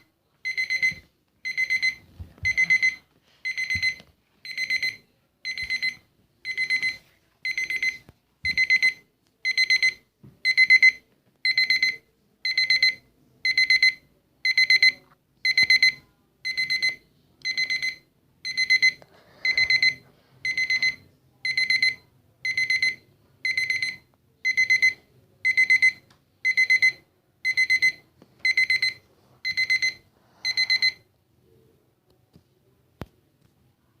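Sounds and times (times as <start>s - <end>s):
kitchen timer alarm beeping: 0.0s - 31.0s.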